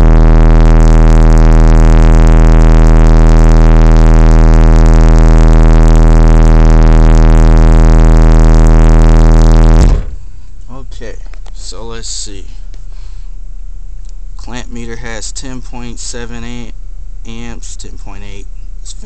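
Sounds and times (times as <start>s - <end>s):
distorted bass test tone: 0.0s - 12.4s, 13.7s - 19.0s.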